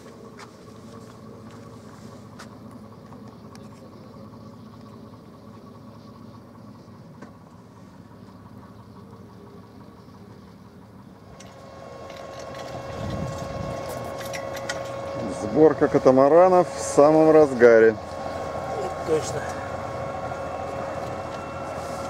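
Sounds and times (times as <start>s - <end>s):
car engine idling: 0.0s - 22.0s
loud steady hum: 0.0s - 22.0s.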